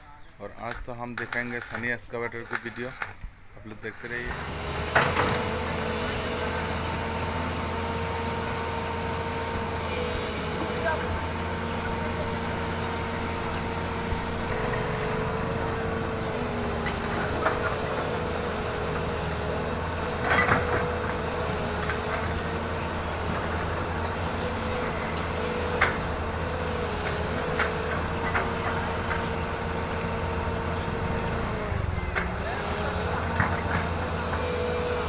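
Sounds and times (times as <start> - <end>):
excavator engine droning: 4.0 - 35.0.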